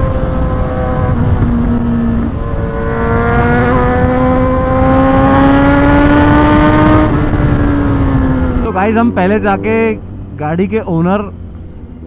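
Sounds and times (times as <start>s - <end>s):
motorcycle engine accelerating: 0.0s - 12.0s
wind rush: 0.0s - 12.0s.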